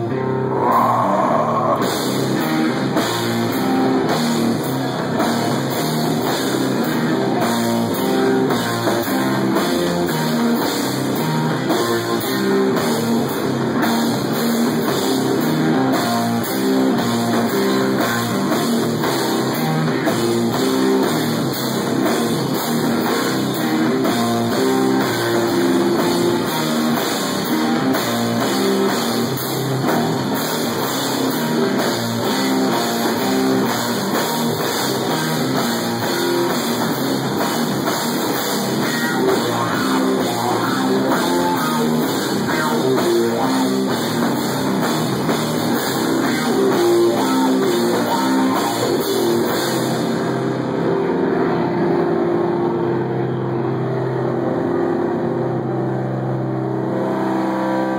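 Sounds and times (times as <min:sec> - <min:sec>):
metal band playing live: 0:00.0 - 0:57.9.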